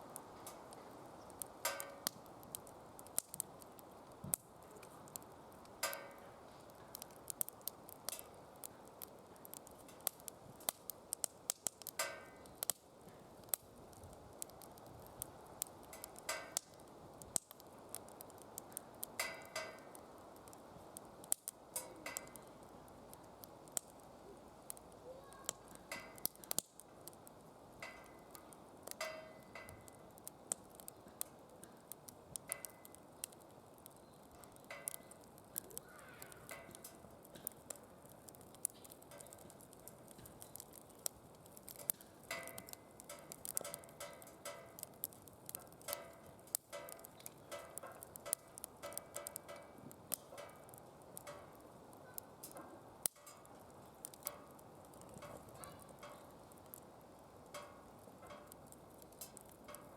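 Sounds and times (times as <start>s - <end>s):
low steady hiss: 0.0s - 59.9s
squeaky hiss from burning wood: 0.0s - 59.9s
wood fire crackling and popping: 0.0s - 59.9s.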